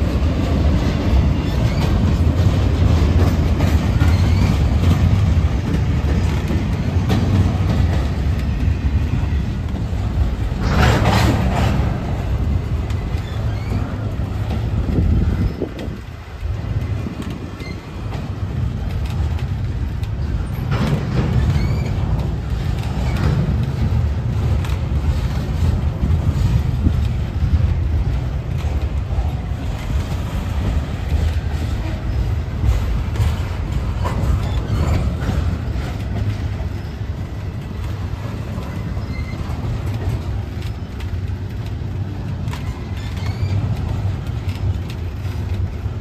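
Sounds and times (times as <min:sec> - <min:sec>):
train rumbling past on rails: 0:00.0 - 0:46.0.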